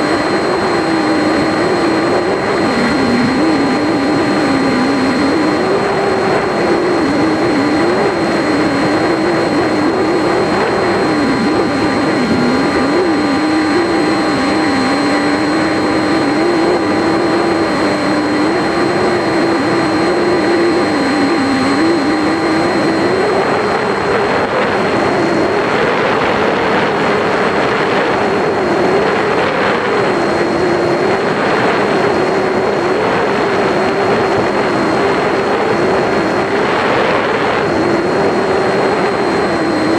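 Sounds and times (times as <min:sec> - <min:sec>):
electric motor and propeller drone: 0:00.0 - 0:39.9
rushing wind noise: 0:00.0 - 0:39.9
thin high whine: 0:00.0 - 0:39.9.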